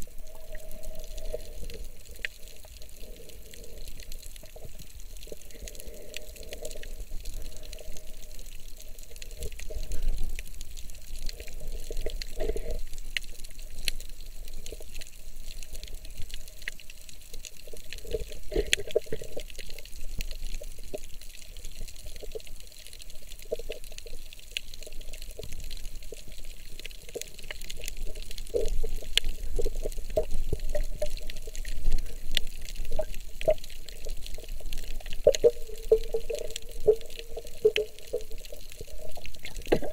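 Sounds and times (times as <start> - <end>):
gurgling water surges: 0.0 - 39.9
muffled underwater water movement: 0.0 - 39.9
faint scattered clicks: 0.1 - 39.9.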